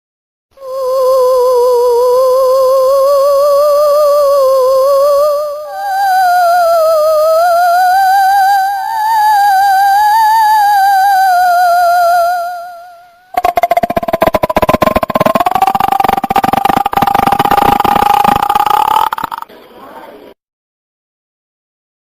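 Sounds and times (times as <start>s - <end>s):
eerie wavering tone with vibrato: 0.6s - 19.4s.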